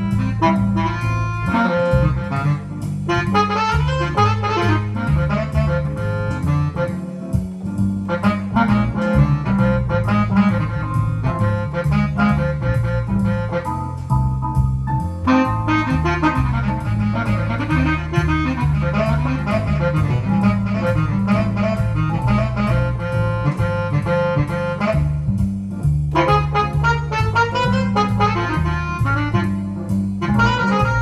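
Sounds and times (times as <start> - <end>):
jazz organ solo: 0.0 - 31.0
walking bass line: 0.0 - 31.0.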